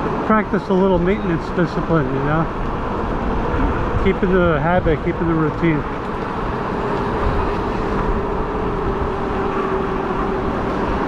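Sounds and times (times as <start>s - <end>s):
wind and tyres rumbling: 0.0s - 11.0s
electric bike motor whine: 2.0s - 11.0s.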